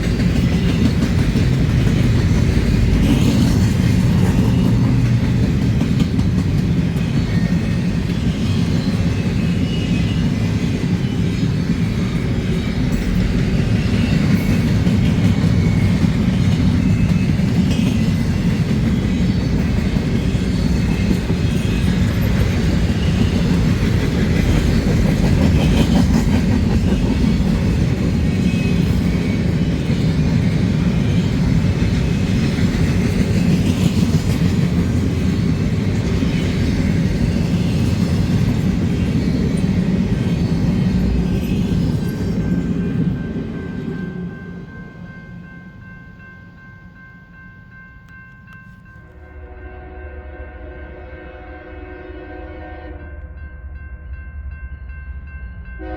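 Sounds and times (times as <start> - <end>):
train rumbling past on rails: 0.0 - 55.9.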